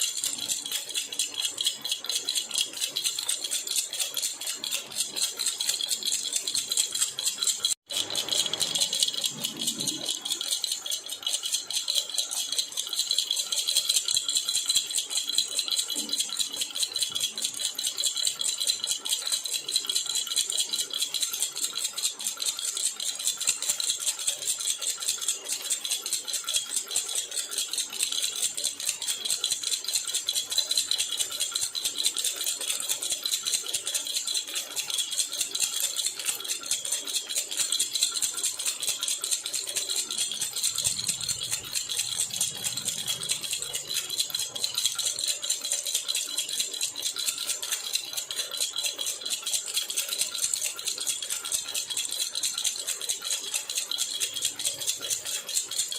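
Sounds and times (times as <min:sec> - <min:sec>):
baby rattle shaken rapidly: 0:00.0 - 0:55.9.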